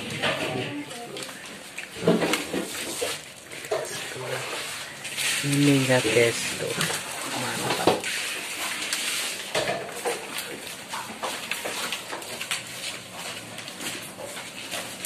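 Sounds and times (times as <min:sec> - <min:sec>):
kitchen clatter of plastic boxes: 0:00.0 - 0:15.0.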